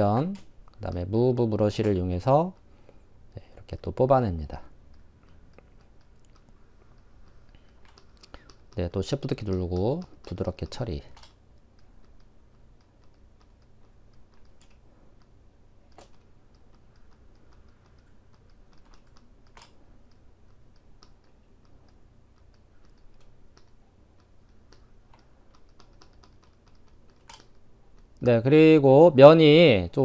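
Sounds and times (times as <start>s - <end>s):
keyboard and mouse clicking: 0.0s - 3.0s, 3.6s - 28.4s.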